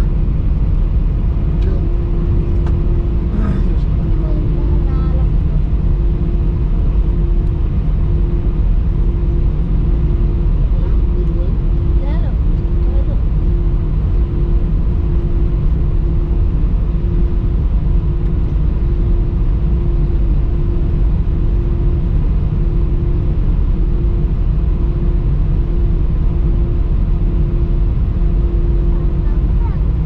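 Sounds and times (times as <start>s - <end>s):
aircraft cabin low rumble: 0.0s - 30.0s
mid-pitched hum: 0.0s - 30.0s.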